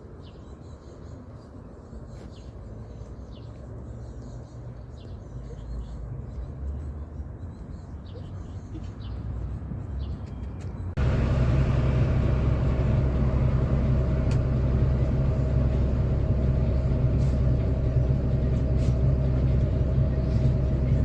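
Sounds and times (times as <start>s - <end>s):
low engine hum: 2.5s - 21.0s.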